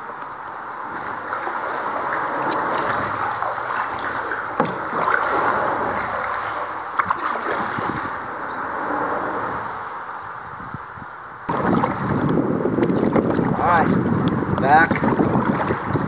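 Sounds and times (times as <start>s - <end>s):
water rushing and splashing: 0.0s - 10.2s, 11.4s - 16.0s.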